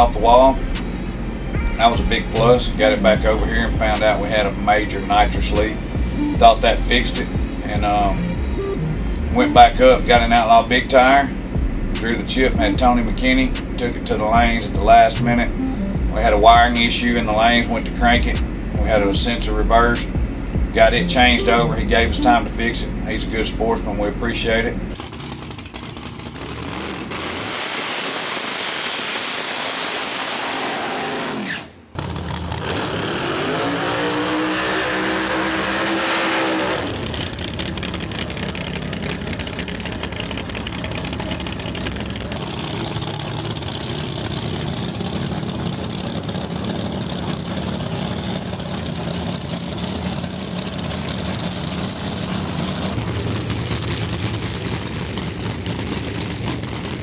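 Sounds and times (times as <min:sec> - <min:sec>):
track noise: 0:00.0 - 0:25.1, 0:33.4 - 0:57.0
engine rumble: 0:00.0 - 0:28.8, 0:32.0 - 0:57.0
drag racing car engine revving: 0:00.0 - 0:57.0.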